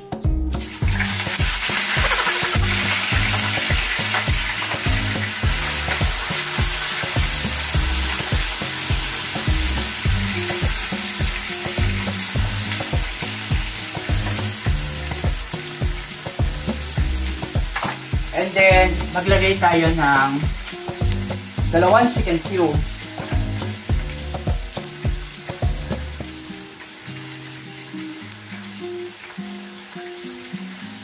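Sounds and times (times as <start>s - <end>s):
bacon sizzling in oil: 0.0s - 31.0s.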